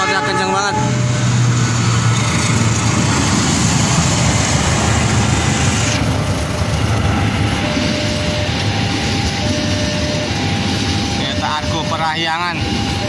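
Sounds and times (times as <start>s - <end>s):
diesel locomotive passing: 0.0s - 13.0s
train wheels rumbling on rail: 0.0s - 13.0s.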